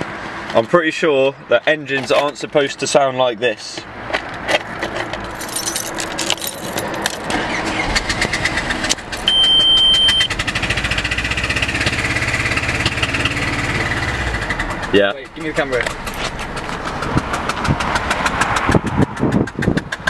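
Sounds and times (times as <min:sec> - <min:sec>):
car engine knocking and clattering: 0:03.8 - 0:20.0.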